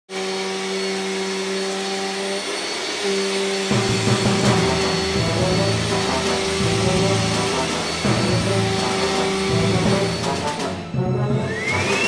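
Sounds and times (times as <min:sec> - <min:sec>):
deeper motor layer: 0:00.1 - 0:12.0
vacuum cleaner running: 0:00.1 - 0:12.0.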